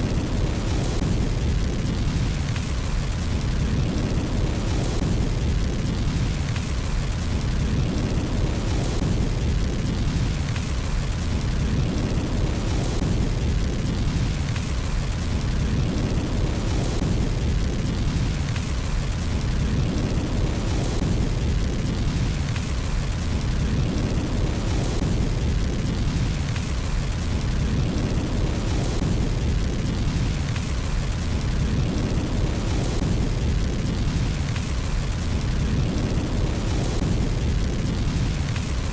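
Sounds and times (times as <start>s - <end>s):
fire burning low rumble: 0.0s - 38.9s.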